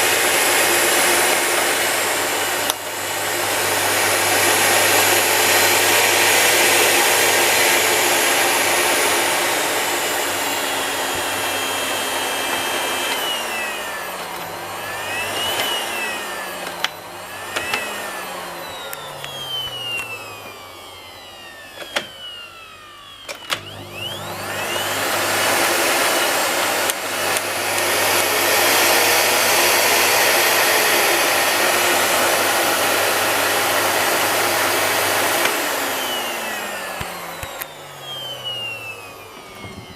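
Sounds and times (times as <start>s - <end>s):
vacuum cleaner clicks: 0.0s - 39.9s
vacuum cleaner whine: 0.0s - 39.9s.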